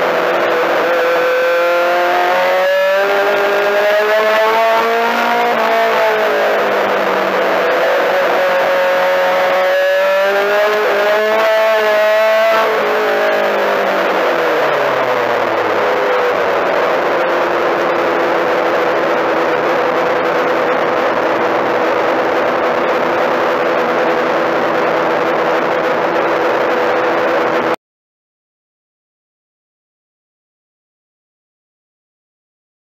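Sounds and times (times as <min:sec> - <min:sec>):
race car engine revving: 0:00.0 - 0:27.8
road and wind noise: 0:00.0 - 0:27.8.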